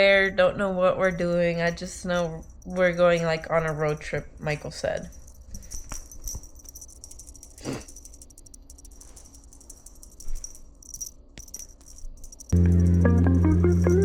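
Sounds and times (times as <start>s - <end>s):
light rattling and handling: 0.8s - 14.0s.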